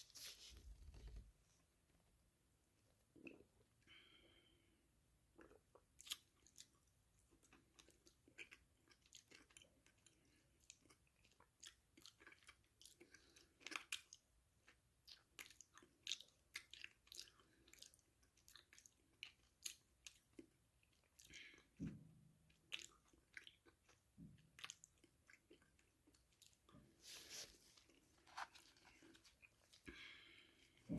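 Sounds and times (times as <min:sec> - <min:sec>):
chewing crunchy food: 0:05.3 - 0:30.9.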